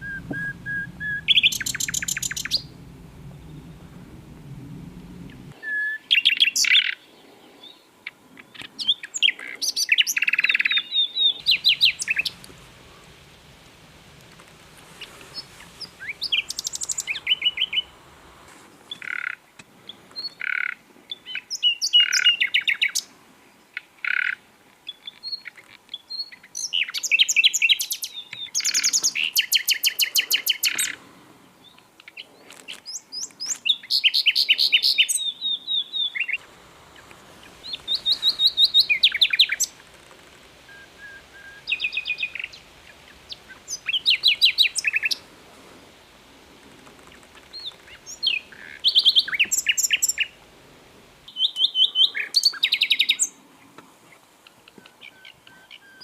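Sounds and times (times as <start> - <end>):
nightingale singing: 0.0 - 18.2, 18.8 - 23.1, 23.7 - 31.0, 31.6 - 45.3, 47.0 - 50.4, 51.2 - 53.4, 54.4 - 56.0.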